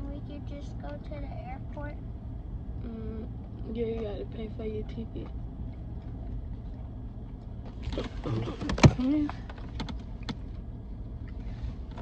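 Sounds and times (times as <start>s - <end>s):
car interior rumble: 0.0s - 12.0s.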